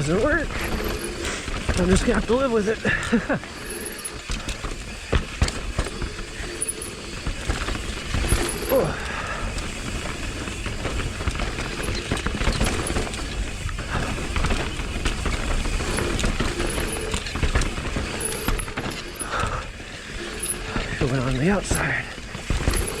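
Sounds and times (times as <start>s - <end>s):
bike rattling and knocking: 0.0s - 23.0s
bike tyre rumble on dirt: 0.0s - 23.0s.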